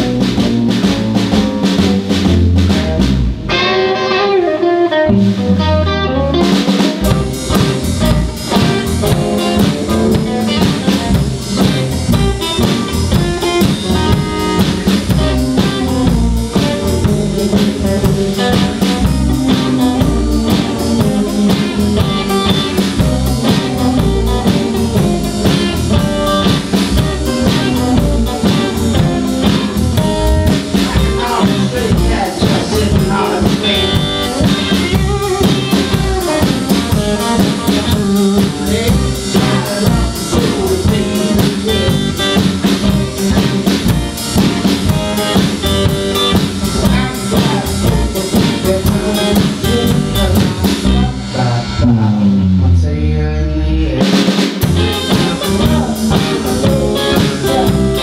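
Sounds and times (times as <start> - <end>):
drum beat: 0.0 - 3.7, 6.5 - 51.0, 54.0 - 58.0
electric bass: 0.0 - 58.0
electric guitar: 0.0 - 58.0.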